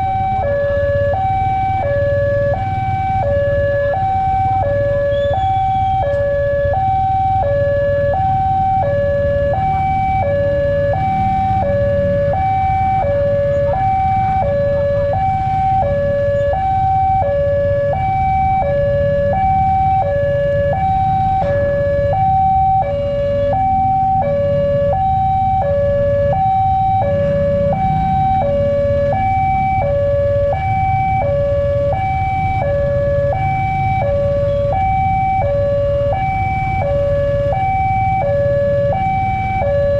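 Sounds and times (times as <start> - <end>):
two-tone level crossing alarm: 0.0 - 39.9.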